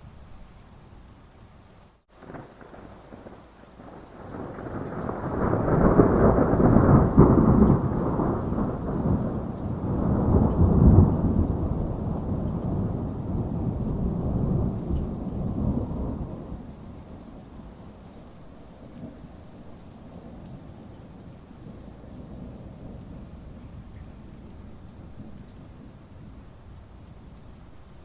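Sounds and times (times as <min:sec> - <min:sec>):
steady rain: 0:00.0 - 0:28.0
rolling thunder: 0:02.2 - 0:26.1.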